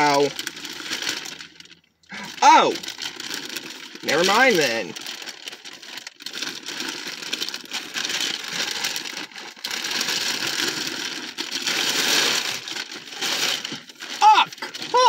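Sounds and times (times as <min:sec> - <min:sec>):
plastic bag rustling: 0:00.0 - 0:15.0.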